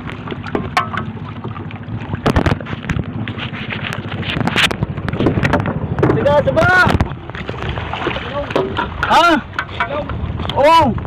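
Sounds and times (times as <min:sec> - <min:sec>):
boat engine low rumble: 0:00.0 - 0:11.0
wind on microphone: 0:00.0 - 0:11.0.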